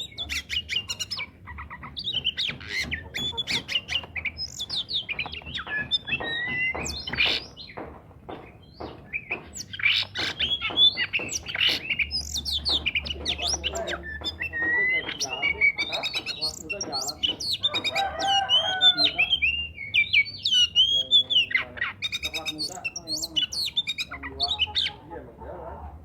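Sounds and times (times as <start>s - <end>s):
bird singing whistles and chirps: 0.0s - 7.8s, 8.5s - 25.0s.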